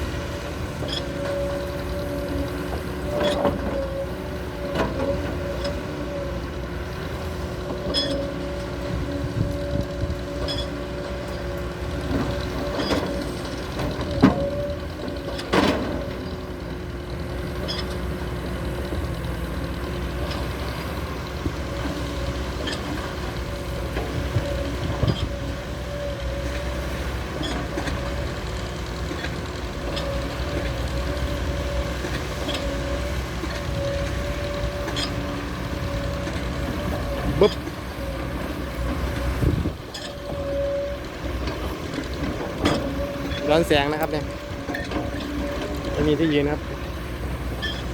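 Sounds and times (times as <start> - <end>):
excavator diesel rumble: 0.0 - 47.9.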